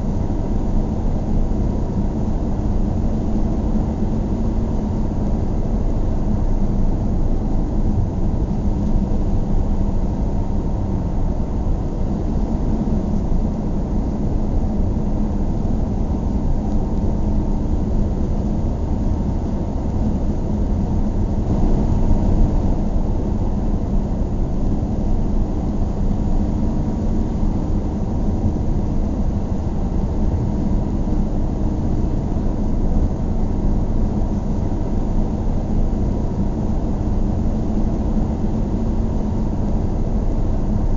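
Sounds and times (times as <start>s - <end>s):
car engine rumble: 0.1s - 40.8s.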